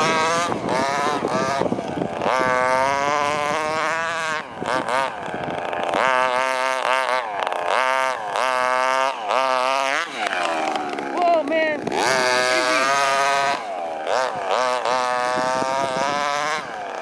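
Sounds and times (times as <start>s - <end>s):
two-stroke gas engine revving: 0.0s - 17.0s.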